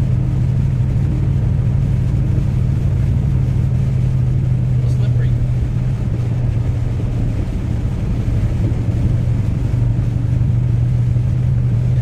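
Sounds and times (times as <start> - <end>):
low engine drone: 0.0 - 12.0
road rumble: 0.0 - 12.0.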